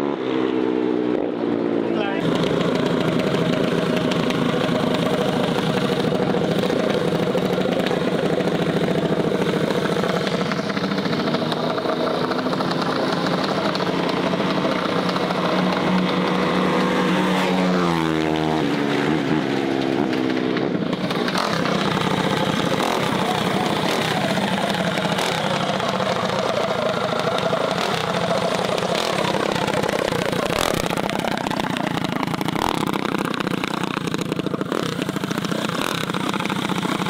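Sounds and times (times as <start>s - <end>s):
mini bike engine running: 1.0s - 37.0s.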